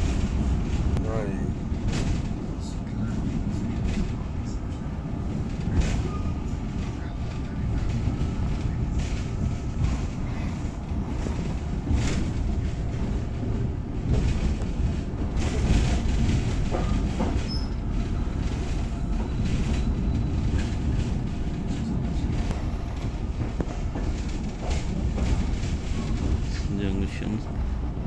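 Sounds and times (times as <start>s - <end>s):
clatters and rattles: 0.0s - 27.7s
train wheels rumbling on track: 0.0s - 28.0s.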